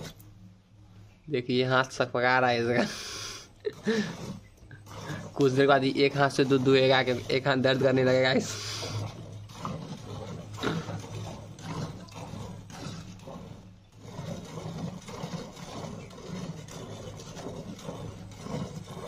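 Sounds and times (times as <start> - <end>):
steady low hum: 0.0 - 19.0
milk squirting into bucket: 2.7 - 19.0.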